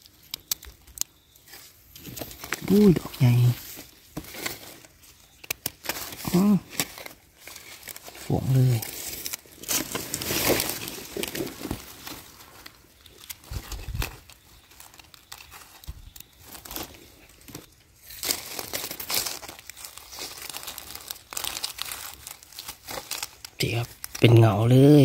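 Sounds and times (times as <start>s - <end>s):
dry leaves rustling: 0.0s - 25.0s.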